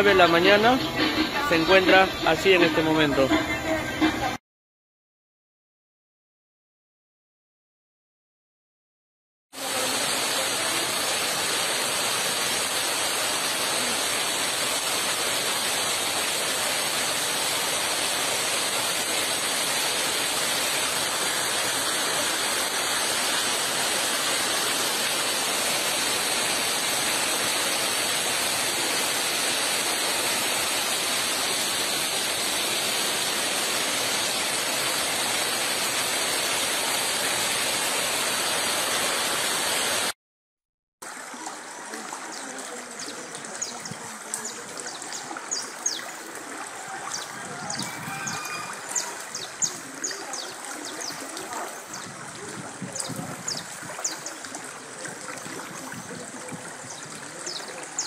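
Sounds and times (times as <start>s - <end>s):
rushing water from heavy rain: 0.0s - 3.3s, 9.6s - 40.2s, 41.0s - 58.0s.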